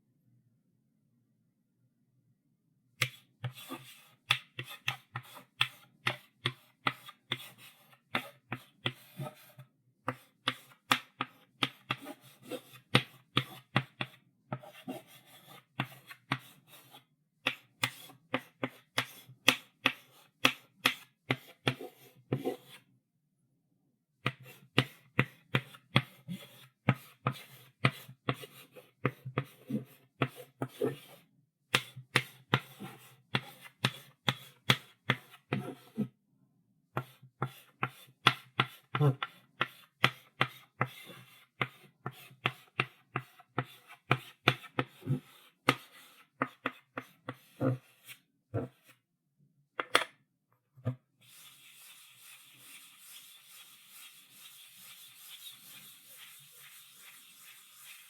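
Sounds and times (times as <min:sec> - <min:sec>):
chalk writing on blackboard: 0:03.0 - 0:22.8, 0:24.2 - 0:36.1, 0:37.0 - 0:49.0, 0:51.2 - 0:58.0.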